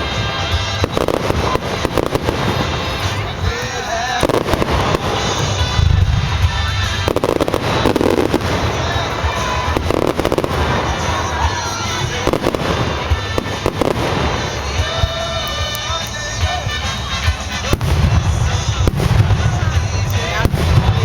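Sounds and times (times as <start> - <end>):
fireworks bursting: 0.0 - 21.0
fireworks crackling and popping: 0.0 - 21.0.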